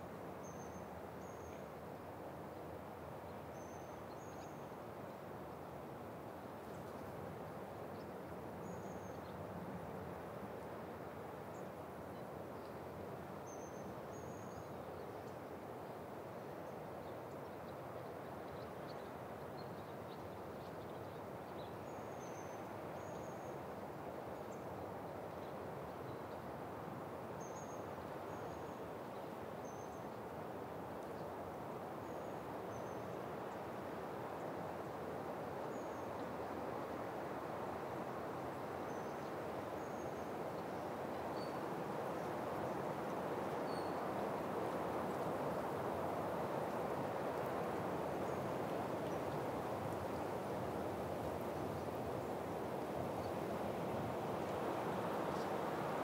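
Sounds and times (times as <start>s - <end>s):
wind through pine trees: 0.0s - 56.0s.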